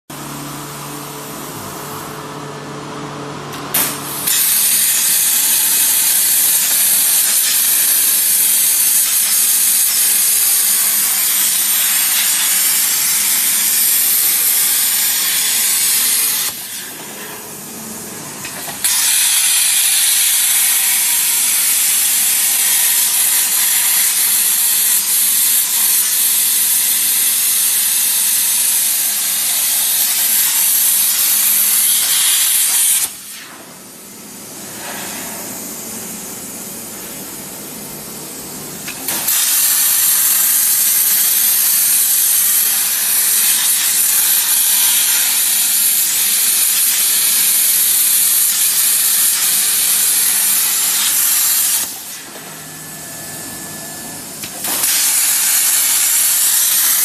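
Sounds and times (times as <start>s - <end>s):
plasma cutter arc hissing: 3.5s - 17.0s, 18.0s - 57.0s.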